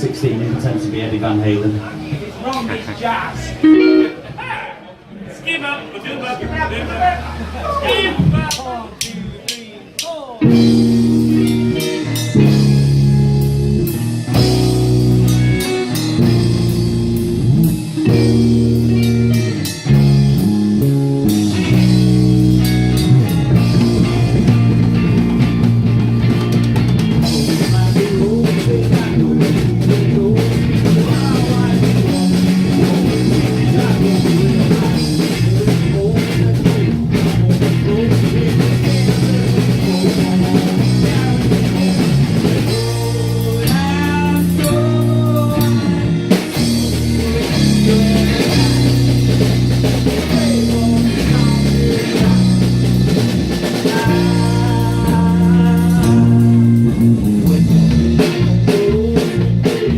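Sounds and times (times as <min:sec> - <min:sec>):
rock band playing: 0:00.0 - 0:04.4, 0:06.4 - 0:59.9.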